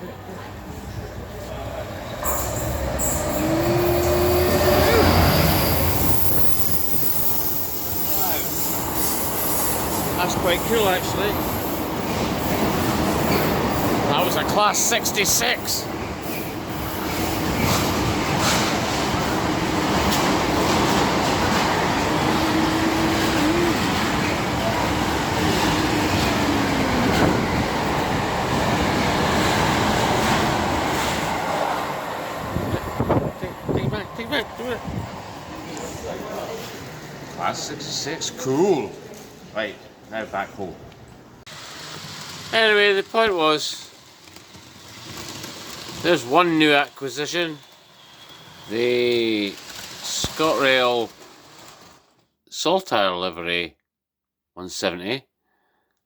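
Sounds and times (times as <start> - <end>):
diesel locomotive passing: 0.1 - 51.9
train wheels rumbling on rail: 0.6 - 38.1, 41.5 - 52.1.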